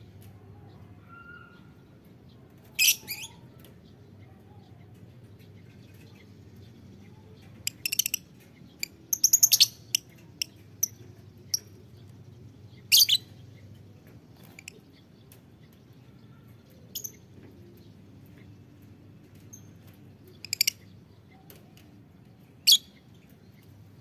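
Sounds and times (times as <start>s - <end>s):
lovebirds chirping: 0.0s - 24.0s.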